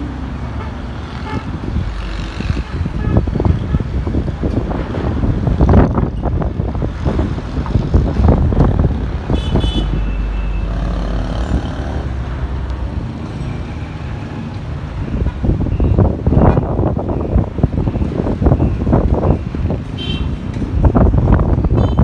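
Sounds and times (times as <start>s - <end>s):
road traffic passing: 0.0s - 22.0s
wind buffeting microphone: 1.2s - 13.2s, 14.6s - 22.0s.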